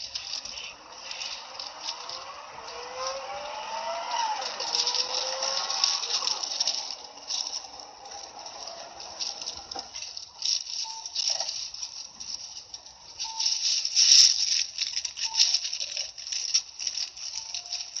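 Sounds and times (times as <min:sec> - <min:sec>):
bus interior rattling and hissing: 0:00.0 - 0:18.0.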